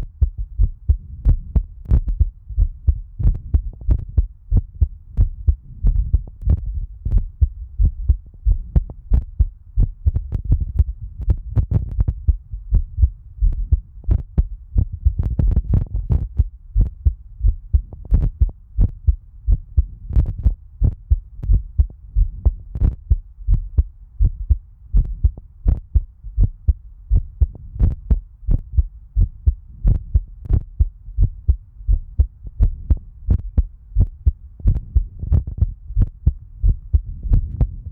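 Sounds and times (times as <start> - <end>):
heartbeat thumps: 0.0 - 37.9.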